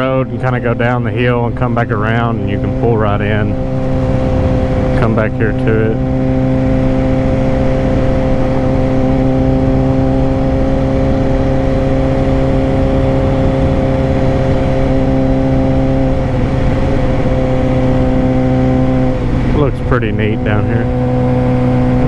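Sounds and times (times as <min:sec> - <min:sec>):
motorcycle engine running at low revs: 0:00.0 - 0:22.0.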